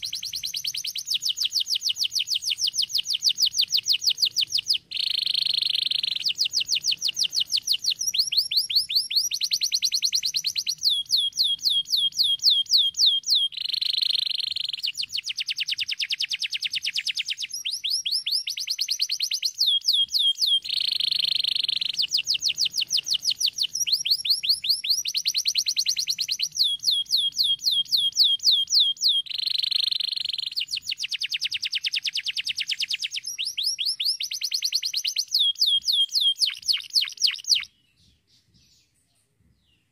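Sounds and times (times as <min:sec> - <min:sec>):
canary singing: 0:00.0 - 0:39.0.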